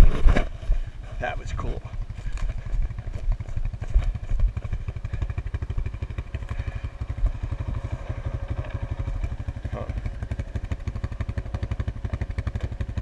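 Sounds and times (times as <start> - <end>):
atv engine running at low revs: 0.0 - 13.0.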